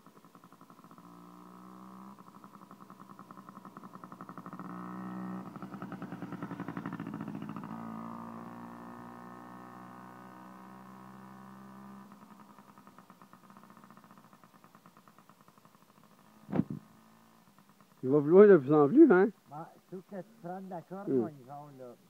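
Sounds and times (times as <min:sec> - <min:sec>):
dirt bike engine buzzing: 0:00.1 - 0:21.8.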